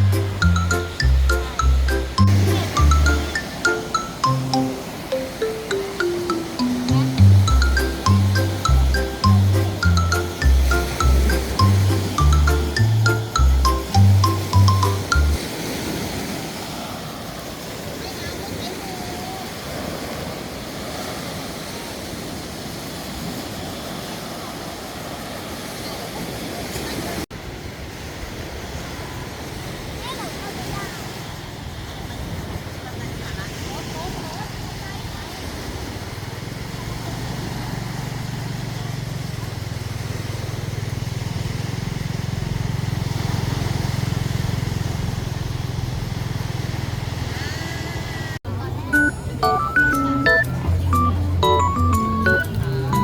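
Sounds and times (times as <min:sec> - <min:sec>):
sea surf washing on beach: 0:00.0 - 0:50.2.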